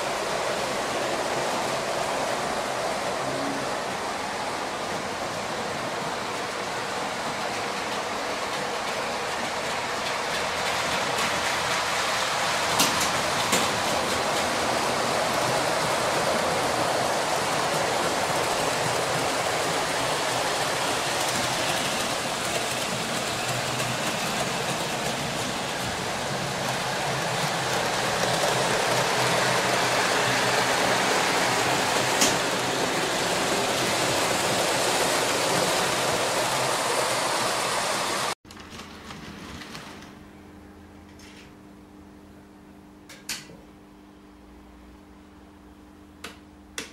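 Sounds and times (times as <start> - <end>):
model trains rumbling on track: 0.0 - 39.8.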